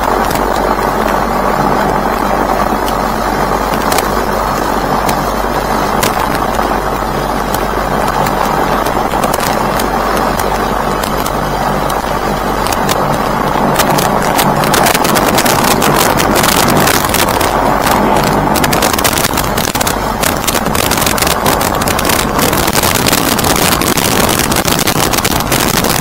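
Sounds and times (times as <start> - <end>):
aircraft engine hum: 0.0 - 26.0
rushing air noise: 0.0 - 26.0.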